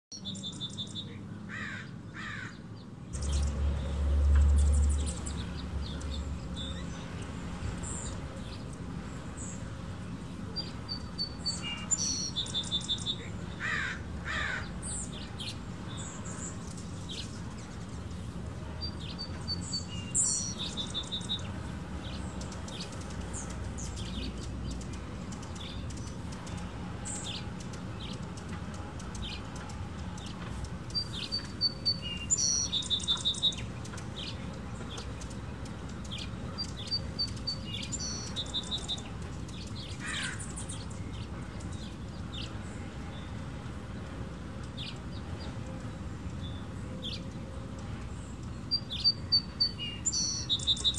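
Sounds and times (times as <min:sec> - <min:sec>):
hummingbirds chirping: 0:00.1 - 0:50.9
low background noise: 0:00.1 - 0:50.9.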